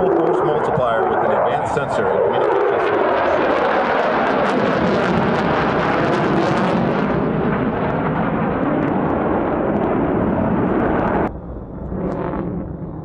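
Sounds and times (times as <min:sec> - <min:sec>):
jets passing overhead: 0:00.0 - 0:13.0.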